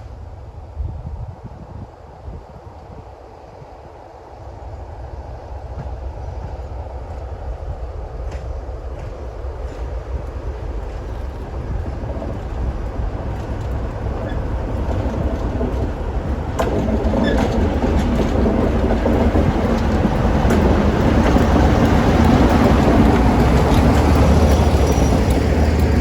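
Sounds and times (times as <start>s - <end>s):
diesel locomotive engine rumble: 0.0s - 26.0s
train wheel noise: 4.3s - 26.0s.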